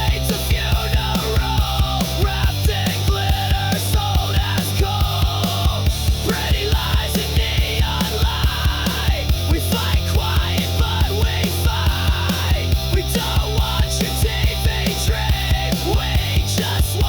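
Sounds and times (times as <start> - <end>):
grunge rock music: 0.0 - 17.0.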